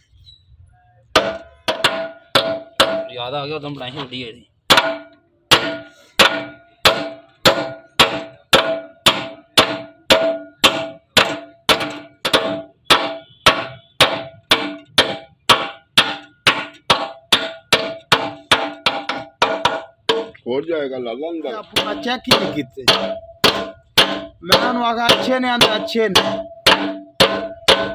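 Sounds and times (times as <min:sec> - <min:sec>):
hammer clanging on metal: 0:01.2 - 0:20.4, 0:21.6 - 0:27.9.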